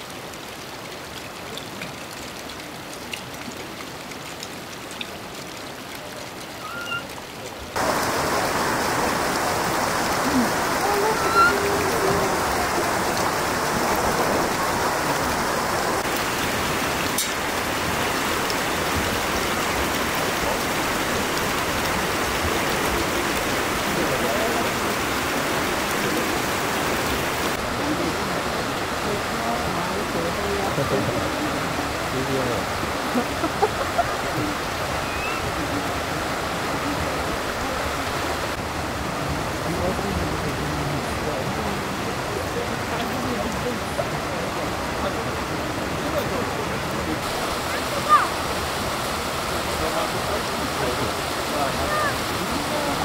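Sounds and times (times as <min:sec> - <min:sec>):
stream running over rocks: 0:00.0 - 0:53.0
water flowing: 0:00.0 - 0:53.0.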